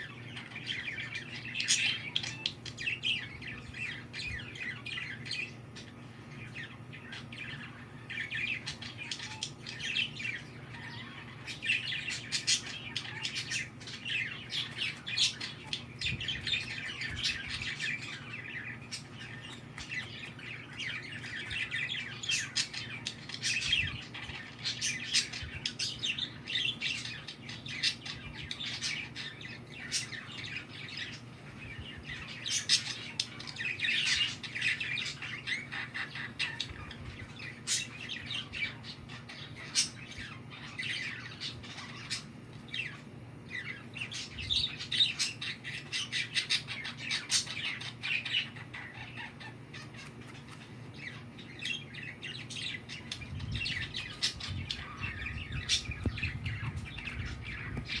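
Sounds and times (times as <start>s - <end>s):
small birds chirping: 0.0s - 58.0s
bird squawks: 6.4s - 43.0s, 43.6s - 58.0s.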